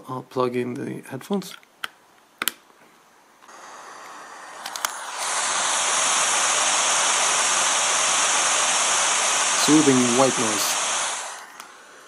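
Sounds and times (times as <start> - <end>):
white noise hiss: 0.0 - 12.0.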